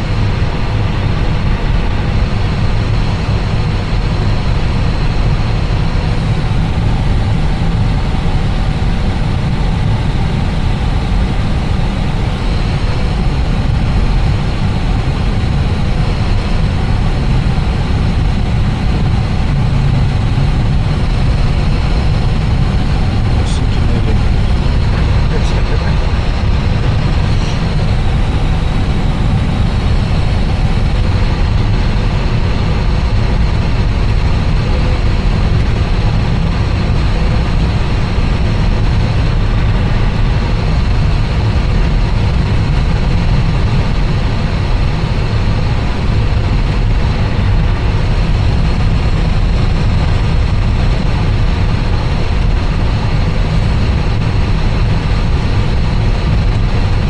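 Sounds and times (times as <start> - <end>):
airplane cabin engine drone: 0.0 - 57.0
faint high whine: 0.0 - 57.0.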